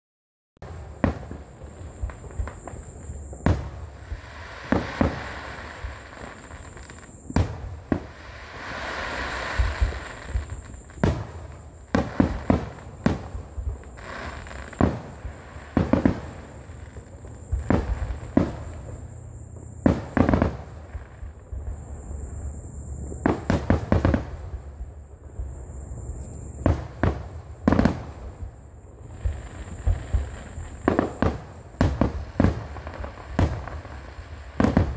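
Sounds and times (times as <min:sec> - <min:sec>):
fireworks bangs: 0:00.6 - 0:34.9
fireworks crackling hiss: 0:00.6 - 0:34.9.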